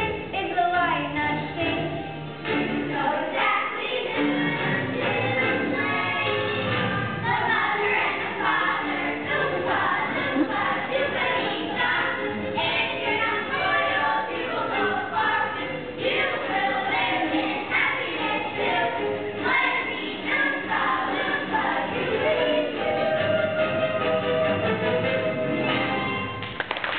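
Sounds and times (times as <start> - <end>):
music: 0.0 - 26.9
children's chorus singing: 2.6 - 24.7.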